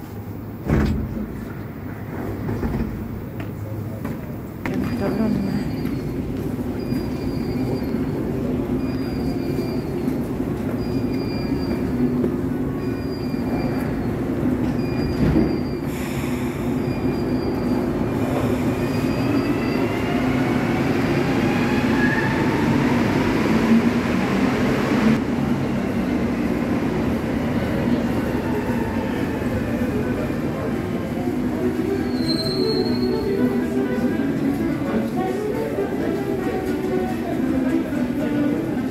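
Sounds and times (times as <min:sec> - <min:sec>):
metro train rumbling: 0:00.0 - 0:38.9.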